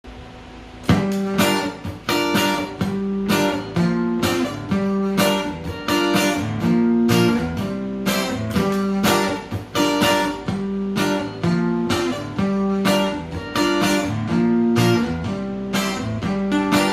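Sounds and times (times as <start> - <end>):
acoustic guitar strumming: 0.8 - 16.9.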